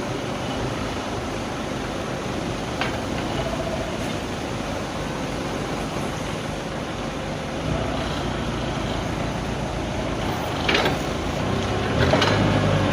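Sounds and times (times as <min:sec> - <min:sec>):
steady mechanical running noise: 0:00.0 - 0:12.9.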